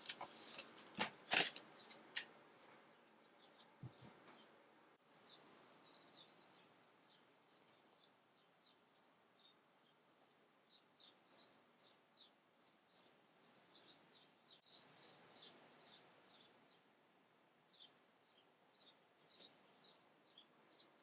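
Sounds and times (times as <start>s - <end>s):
small birds chirping: 0.0s - 21.0s
soft outdoor hiss: 0.0s - 21.0s.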